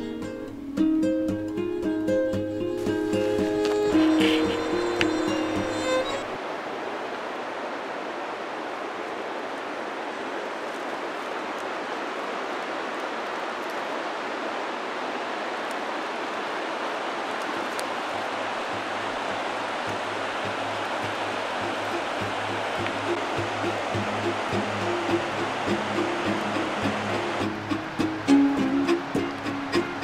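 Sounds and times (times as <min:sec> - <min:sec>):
river rapids rushing: 0:02.0 - 0:30.0.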